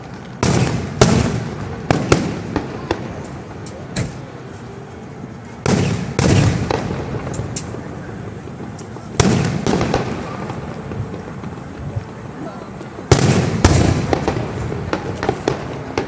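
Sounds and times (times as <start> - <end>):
fireworks booming: 0.0 - 4.5, 5.3 - 16.0
rolling rumble and crackle: 0.0 - 16.0.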